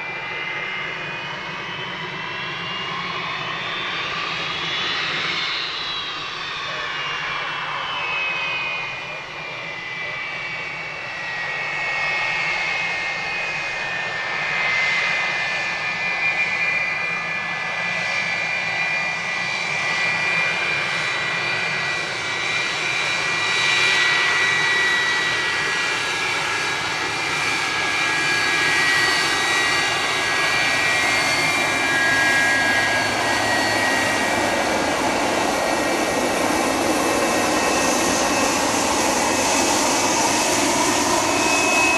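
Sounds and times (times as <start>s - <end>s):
jet engines whining and roaring: 0.0s - 41.9s.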